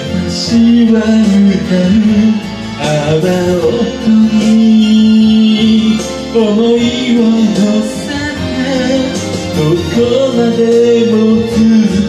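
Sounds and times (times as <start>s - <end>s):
guitar: 0.0s - 12.0s
man singing long held notes: 0.0s - 12.0s.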